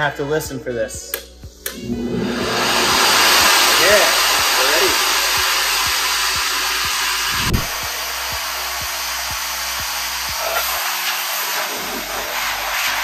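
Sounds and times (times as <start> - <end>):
air dryer blowing air: 1.6 - 13.0.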